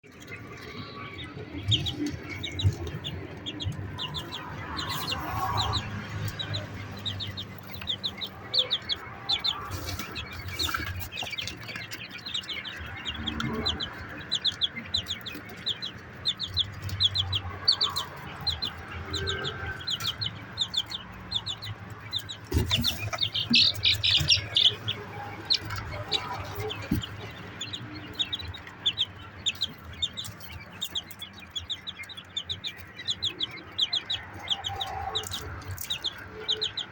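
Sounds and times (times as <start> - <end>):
quail chicks peeping: 0.0 - 36.9.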